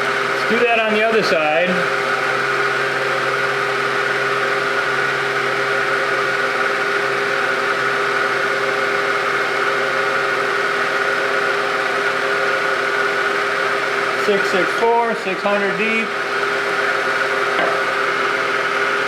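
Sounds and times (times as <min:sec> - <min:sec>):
milling machine spindle whine: 0:00.0 - 0:19.0.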